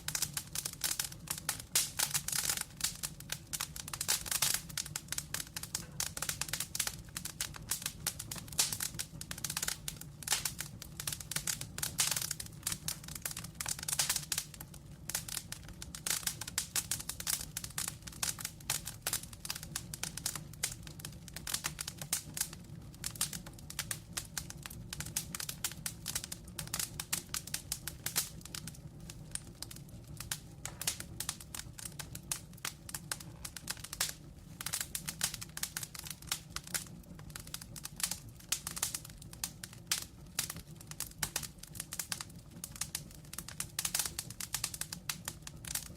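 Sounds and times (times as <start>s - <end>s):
low rumble of flame: 0.0s - 45.9s
wood fire crackling: 0.0s - 45.9s.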